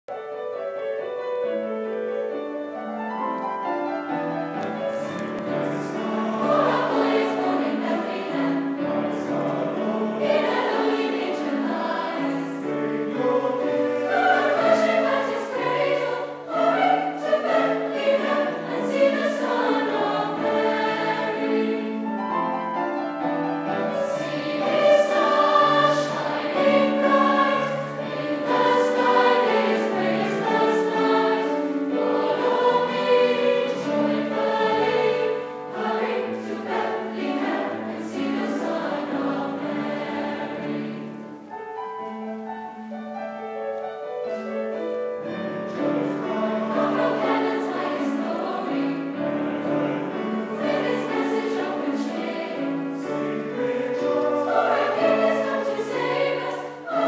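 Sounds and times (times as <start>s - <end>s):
choir singing: 1.0s - 43.1s, 44.2s - 57.0s.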